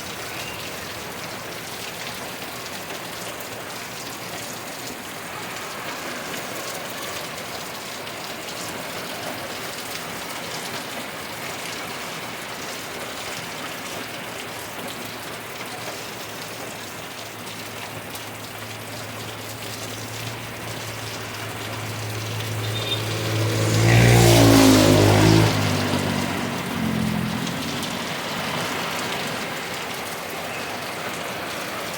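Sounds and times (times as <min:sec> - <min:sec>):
heavy rain falling: 0:00.0 - 0:31.9
vehicle passing on wet road: 0:00.0 - 0:31.9.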